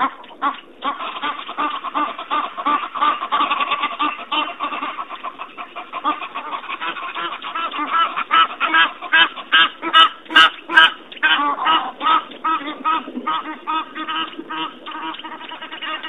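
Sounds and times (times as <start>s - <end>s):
animals chattering calls: 0.1s - 16.0s.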